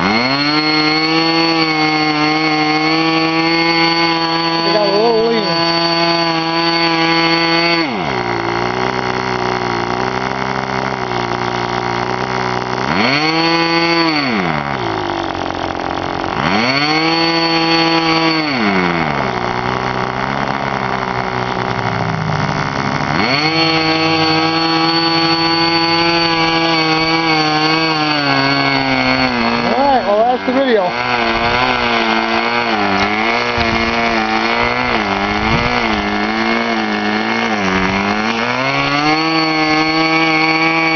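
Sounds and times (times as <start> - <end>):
model engine revving: 0.0 - 40.9.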